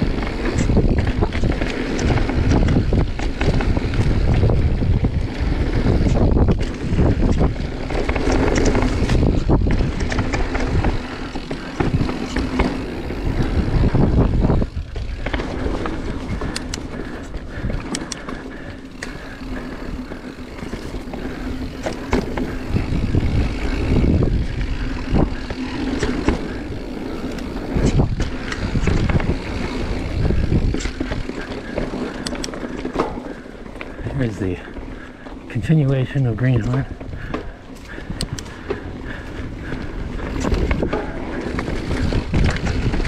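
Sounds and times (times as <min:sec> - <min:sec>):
bike clicks and rattles: 0:00.0 - 0:43.0
bike tyre noise on dirt: 0:00.0 - 0:43.0
wind rumbling on microphone: 0:00.0 - 0:43.0.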